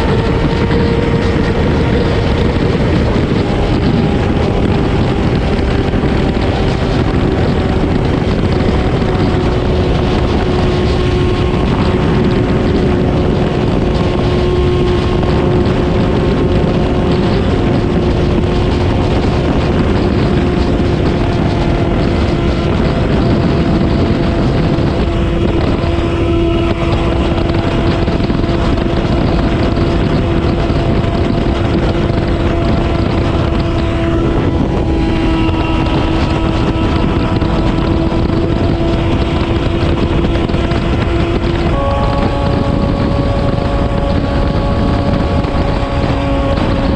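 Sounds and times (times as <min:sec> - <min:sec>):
motorcycle engine cruising: 0:00.0 - 0:46.9
wind rush over microphone: 0:00.0 - 0:46.9.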